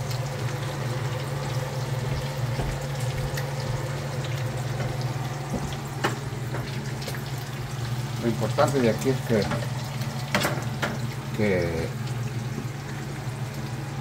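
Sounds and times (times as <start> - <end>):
eggs sizzling in oil: 0.0 - 14.0.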